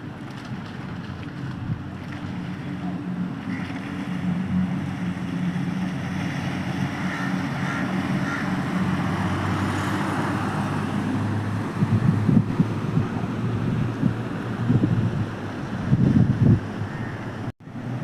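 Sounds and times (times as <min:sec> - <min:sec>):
engine humming: 0:00.0 - 0:18.0
wind buffeting microphone: 0:00.0 - 0:18.0.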